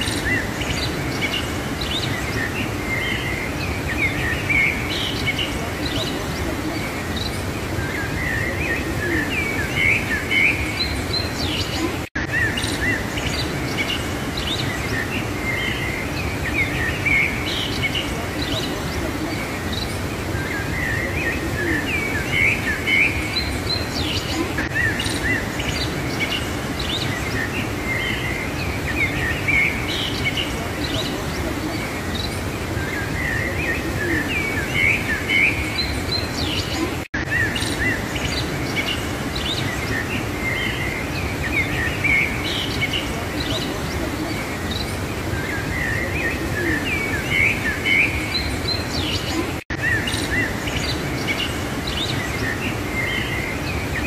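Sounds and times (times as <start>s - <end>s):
small birds chirping: 0.0s - 54.0s
whitewater rushing through canyon: 0.0s - 54.0s.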